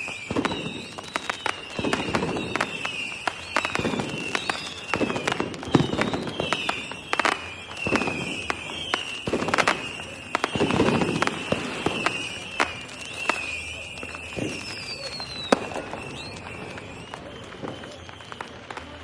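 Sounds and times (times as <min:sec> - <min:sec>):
high whistles dipping in pitch: 0:00.0 - 0:18.6
fireworks bangs and crackles: 0:00.0 - 0:19.0.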